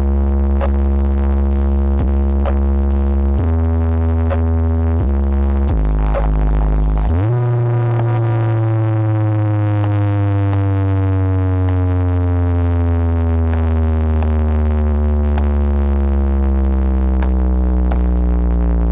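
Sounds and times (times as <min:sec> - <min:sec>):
deep bass tone sliding down: 0:00.0 - 0:18.9.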